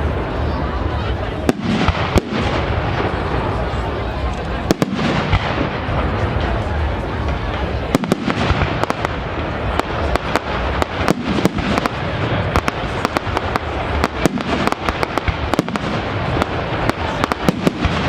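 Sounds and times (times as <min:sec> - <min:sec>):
continuous noisy background: 0:00.0 - 0:18.0
fireworks bangs and crackles: 0:00.0 - 0:18.0.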